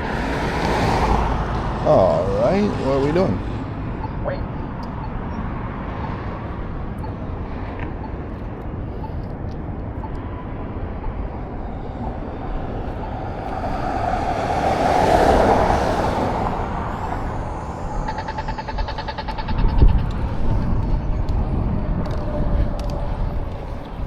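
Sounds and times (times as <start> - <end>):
motor vehicle passing: 0.0 - 8.1, 10.7 - 24.0
bike road noise: 0.0 - 24.0
rushing wind: 0.0 - 24.0.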